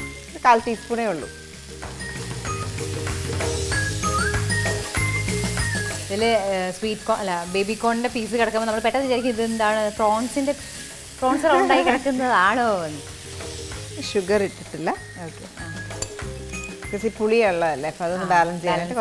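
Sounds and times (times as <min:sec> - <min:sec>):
masala sizzling in a pan: 0:00.0 - 0:19.0.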